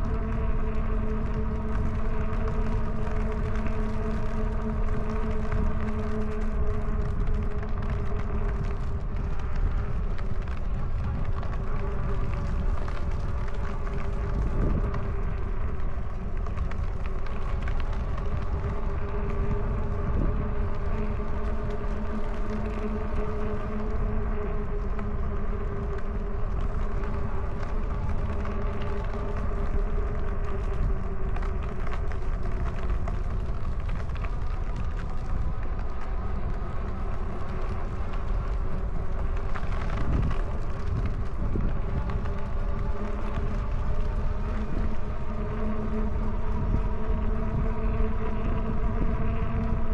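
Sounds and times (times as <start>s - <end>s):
wind rumbling on microphone: 0.0s - 49.9s.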